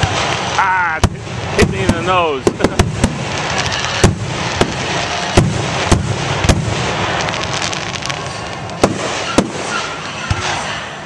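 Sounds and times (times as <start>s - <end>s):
firework crackling: 0.0s - 11.0s
firework shells bursting: 0.0s - 11.0s.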